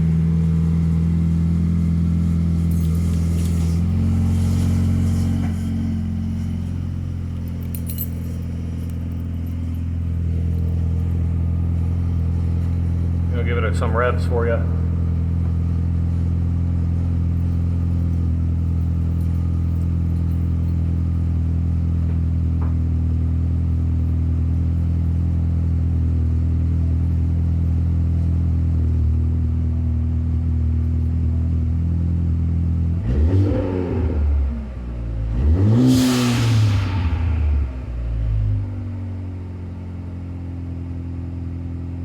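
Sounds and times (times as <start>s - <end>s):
car exhaust idling and revving: 0.0s - 42.0s.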